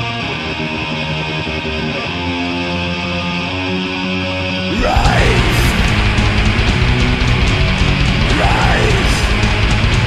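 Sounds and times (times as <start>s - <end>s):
heavy metal band playing: 0.0s - 10.0s.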